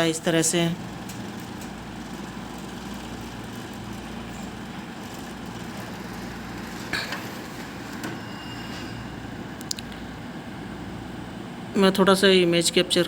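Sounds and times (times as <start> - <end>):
air conditioner hum and buzz: 0.0 - 13.0.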